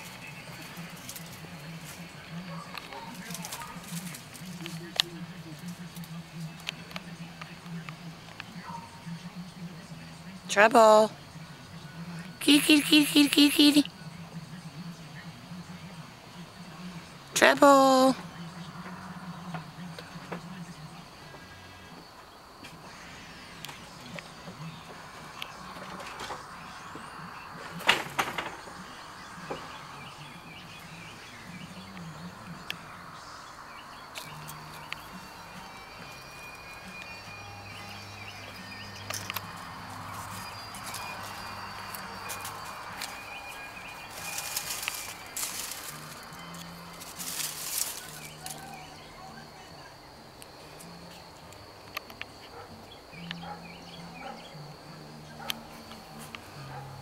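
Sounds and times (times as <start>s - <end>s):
high insect trill: 11.0s - 57.0s.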